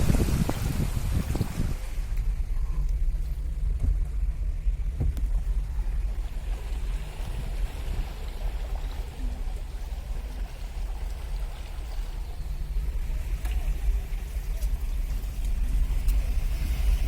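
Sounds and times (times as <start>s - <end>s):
vehicle engine rumbling: 0.0s - 17.0s
water splashing around vehicle: 0.0s - 17.0s.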